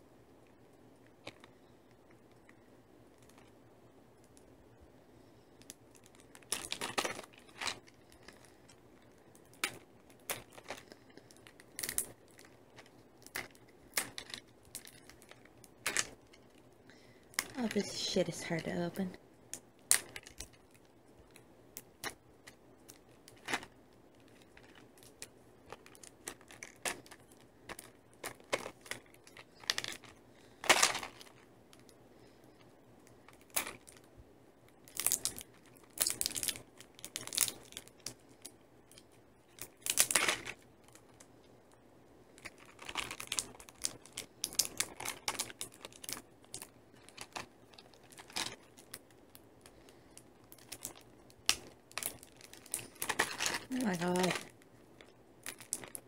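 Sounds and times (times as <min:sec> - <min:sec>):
plastic wrapper crinkling: 0:01.0 - 0:03.6, 0:05.2 - 0:41.5, 0:42.2 - 0:56.0.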